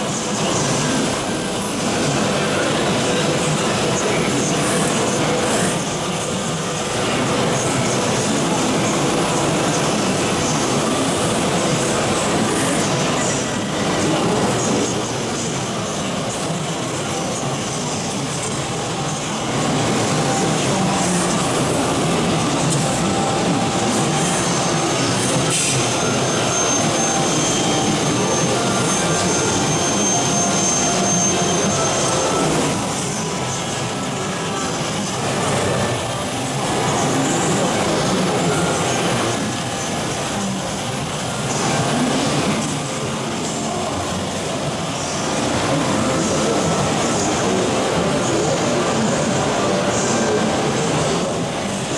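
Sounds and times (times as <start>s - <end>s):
machining center running with whine: 0.0s - 51.9s.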